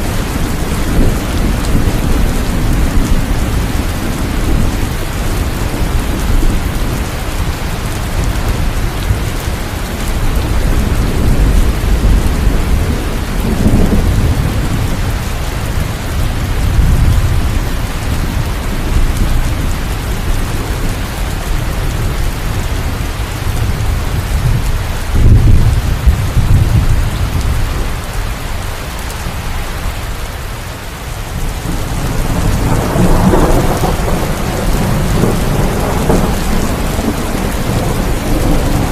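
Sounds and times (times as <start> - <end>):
thunder rumbling: 0.0 - 28.2, 31.2 - 38.9
heavy rain: 0.0 - 38.9.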